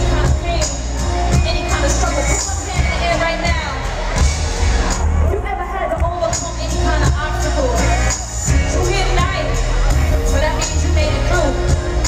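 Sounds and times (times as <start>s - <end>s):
woman singing: 0.0s - 4.0s, 5.4s - 12.0s
deep bass: 0.0s - 12.0s
live band playing: 0.0s - 12.0s
steady drum beat: 0.0s - 12.0s.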